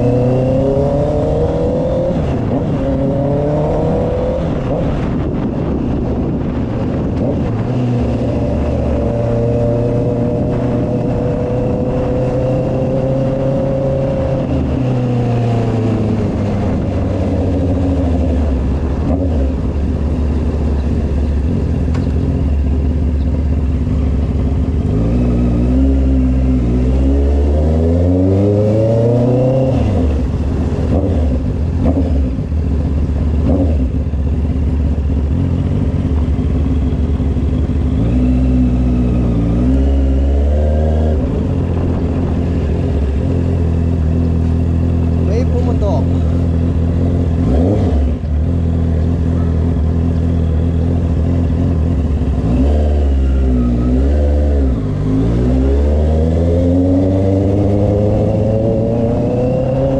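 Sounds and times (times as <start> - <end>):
motorcycle engine running: 4.5 - 27.2, 29.4 - 59.9.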